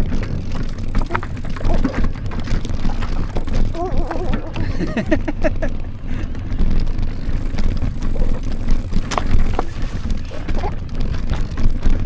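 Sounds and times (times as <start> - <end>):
bike clicks and knocks on stones: 0.0 - 12.0
bike rumble on rocky track: 0.0 - 12.0.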